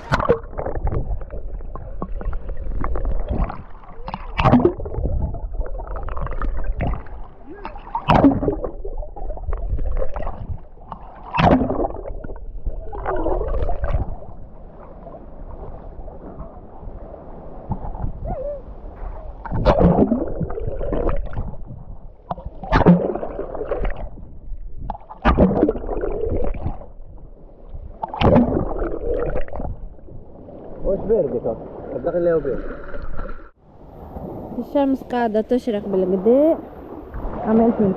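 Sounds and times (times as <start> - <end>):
sea water sloshing and gurgling: 0.0 - 37.9.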